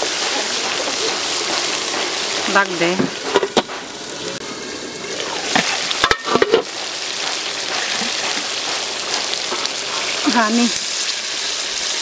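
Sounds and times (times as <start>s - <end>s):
curry sizzling and bubbling: 0.0s - 12.0s.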